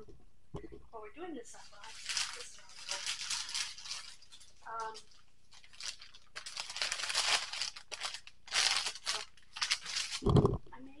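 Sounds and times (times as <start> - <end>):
packaging tearing and crinkling: 1.7 - 10.5.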